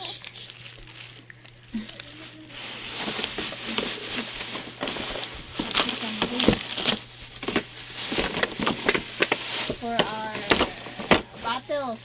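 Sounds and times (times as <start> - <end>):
rustling: 0.0 - 11.9.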